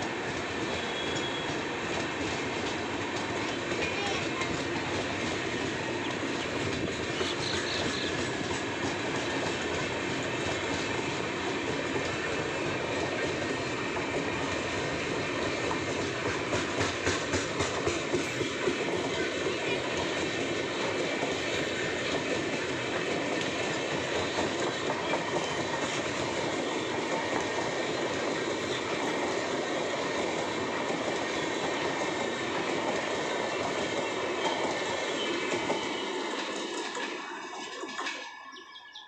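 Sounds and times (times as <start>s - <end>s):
train wheels clattering over rail joints: 0.0s - 38.4s.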